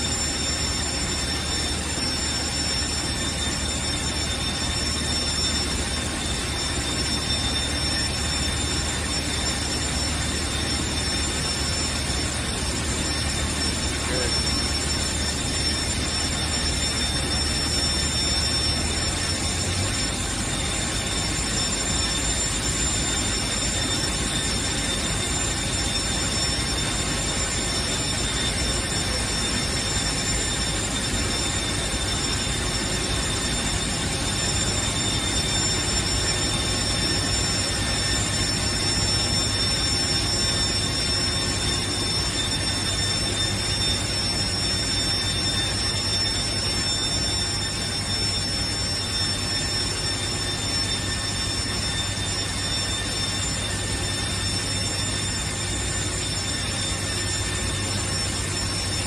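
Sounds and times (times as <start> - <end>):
high-pitched whining tones: 0.0 - 59.0
machine rushing hum: 0.0 - 59.0.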